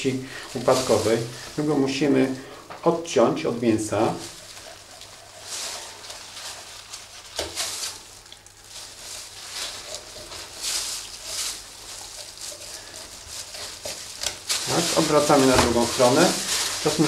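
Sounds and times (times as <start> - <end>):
gloved hands rustling and scraping: 0.0 - 17.0.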